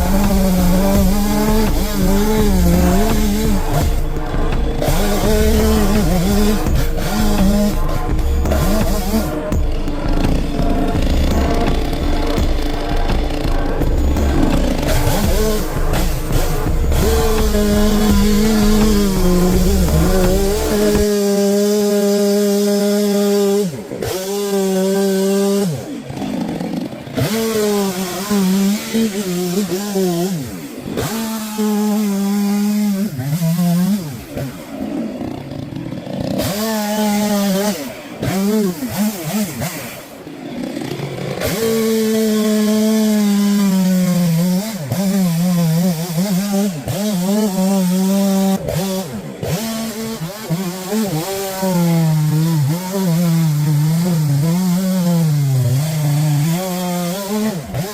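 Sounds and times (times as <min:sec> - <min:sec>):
chainsaw cutting at high revs: 0:00.0 - 0:57.9.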